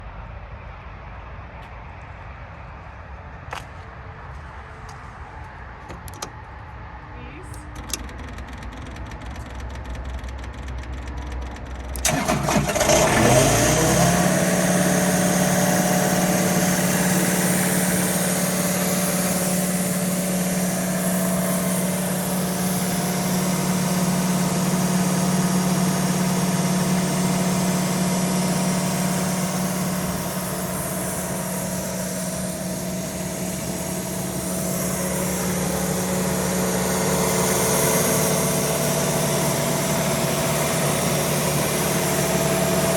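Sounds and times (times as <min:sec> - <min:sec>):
diesel engine idling: 0:04.1 - 0:42.9
diesel engine cranking: 0:05.8 - 0:06.7, 0:07.4 - 0:42.9.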